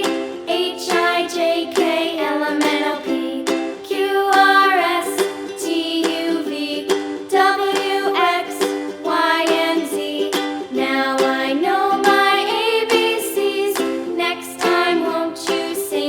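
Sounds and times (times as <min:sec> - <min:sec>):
plucked ukulele accompaniment: 0:00.0 - 0:16.0.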